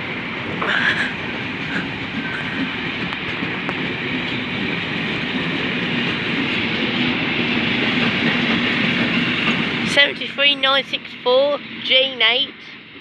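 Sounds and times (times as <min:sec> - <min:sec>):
train rail rumble: 0:00.0 - 0:13.0.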